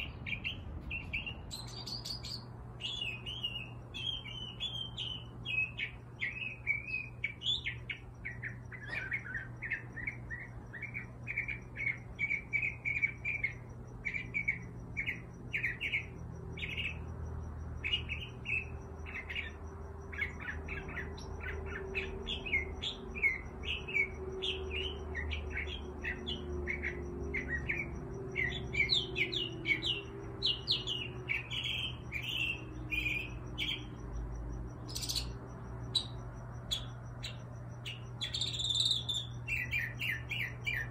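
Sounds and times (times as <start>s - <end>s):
finches chirping: 0.0s - 40.9s
steady low hum: 0.0s - 40.9s.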